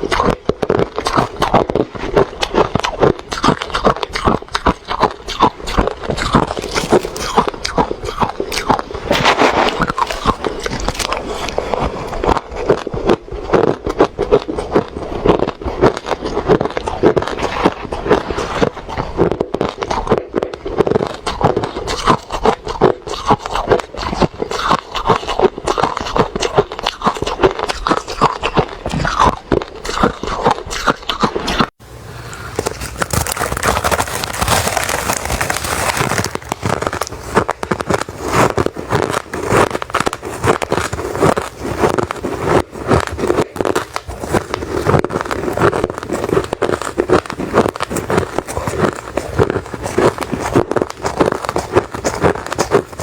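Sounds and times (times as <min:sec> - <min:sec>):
person chewing crushed ice: 0:00.0 - 0:53.0.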